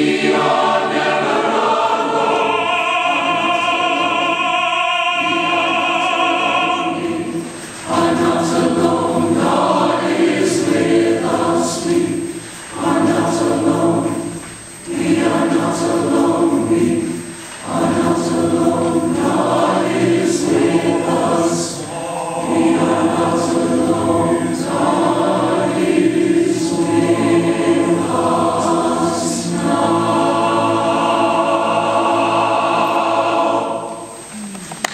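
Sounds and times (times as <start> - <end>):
mixed choir singing: 0.0 - 34.4.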